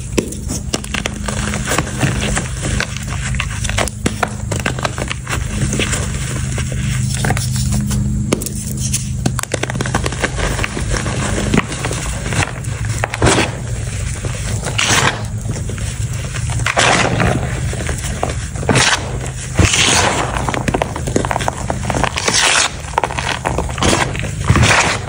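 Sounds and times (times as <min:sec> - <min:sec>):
hands crumbling chalk: 0:00.0 - 0:25.0.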